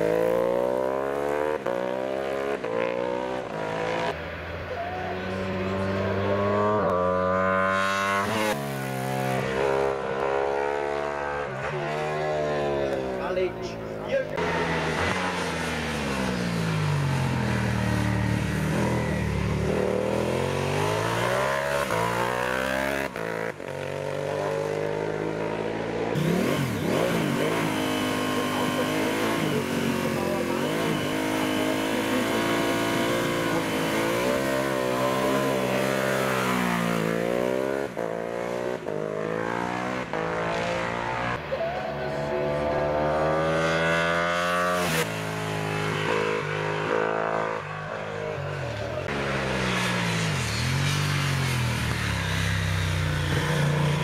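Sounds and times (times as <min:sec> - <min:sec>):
motorcycle engine at full throttle: 0:00.0 - 0:04.2, 0:04.9 - 0:54.0.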